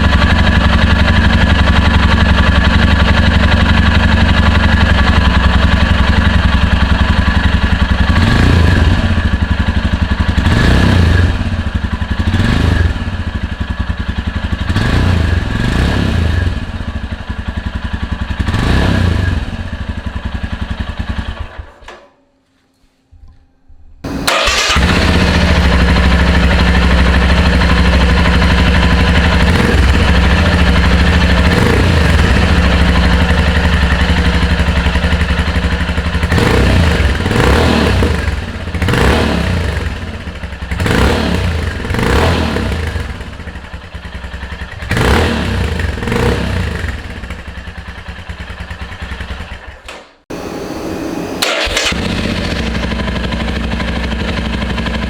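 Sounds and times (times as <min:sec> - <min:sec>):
motorcycle throttle revs: 0:00.0 - 0:13.7, 0:14.4 - 0:17.0, 0:17.8 - 0:20.0, 0:24.1 - 0:55.0
motorcycle engine idling: 0:00.0 - 0:21.6, 0:24.1 - 0:49.9, 0:51.5 - 0:55.0.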